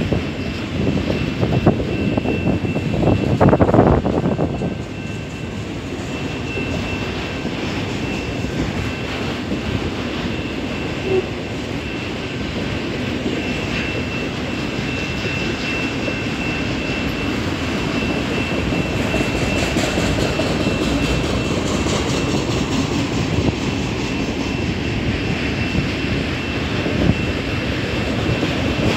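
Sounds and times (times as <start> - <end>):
freight train wheels rumbling on rails: 0.0 - 28.9.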